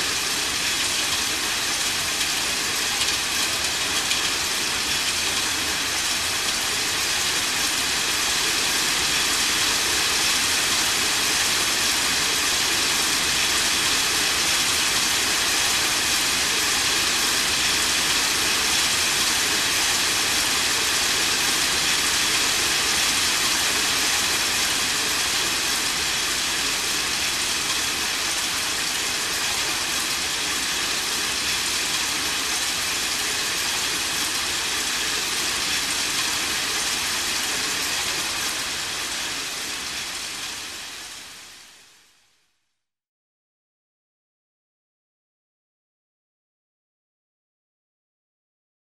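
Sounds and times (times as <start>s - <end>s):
steady rain falling: 0.0s - 42.3s.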